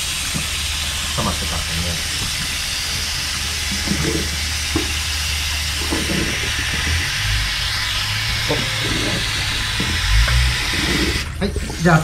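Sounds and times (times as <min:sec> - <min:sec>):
tap water running into basin: 0:00.0 - 0:12.0.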